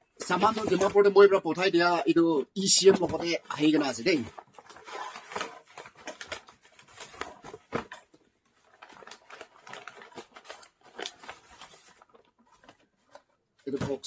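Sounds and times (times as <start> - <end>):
packaging rustling and crinkling: 0.2 - 2.0, 2.6 - 14.0.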